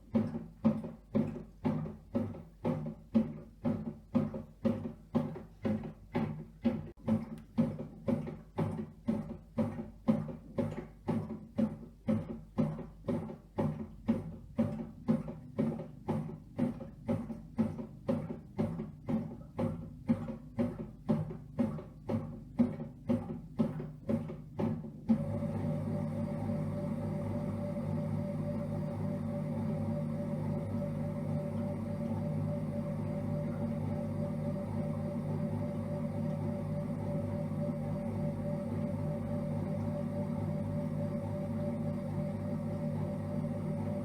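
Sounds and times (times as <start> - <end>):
bread maker motor pulsing: 0.0 - 44.0.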